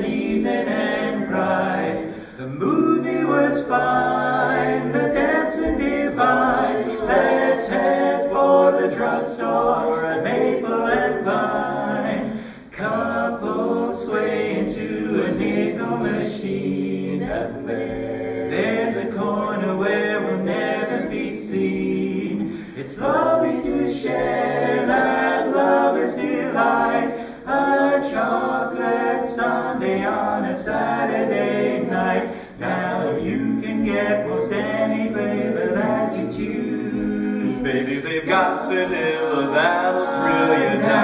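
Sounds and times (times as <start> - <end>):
quartet singing a cappella: 0.0 - 41.0.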